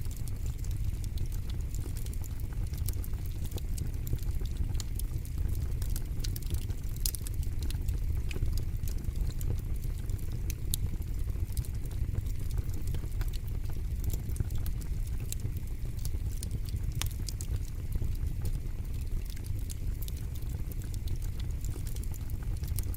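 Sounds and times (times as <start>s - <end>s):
wood fire crackling and popping: 0.0s - 22.9s.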